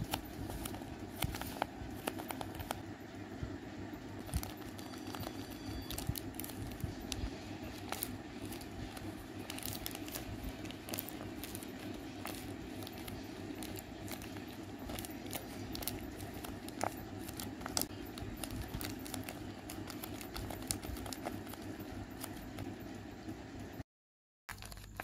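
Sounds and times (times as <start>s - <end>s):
taped paper crinkling and crackling: 0.0s - 2.9s, 4.2s - 22.8s, 24.5s - 25.0s.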